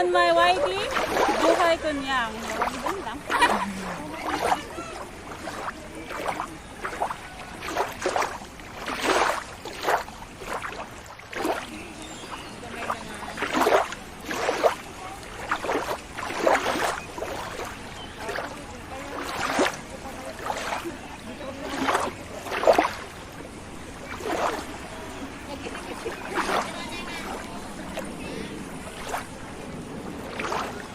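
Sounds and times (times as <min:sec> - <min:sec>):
water splashing and sloshing: 0:00.0 - 0:30.9.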